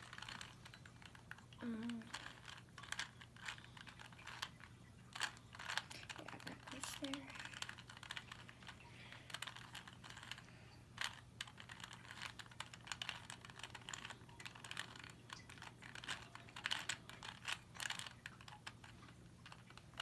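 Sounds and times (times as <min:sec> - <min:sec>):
plastic puzzle cube clicking: 0:00.0 - 0:20.0.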